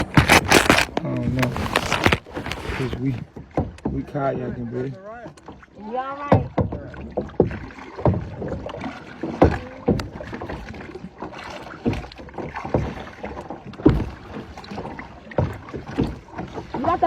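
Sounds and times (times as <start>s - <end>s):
kayak paddles splashing in water: 0.0s - 17.0s
paddle knocks: 0.0s - 17.0s.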